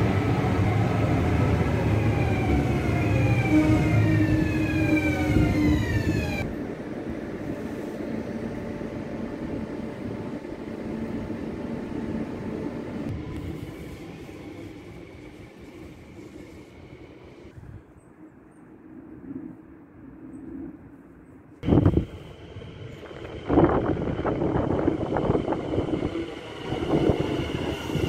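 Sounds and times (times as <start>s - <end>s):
wheels rumbling on rail: 0.0s - 17.6s, 21.6s - 28.0s.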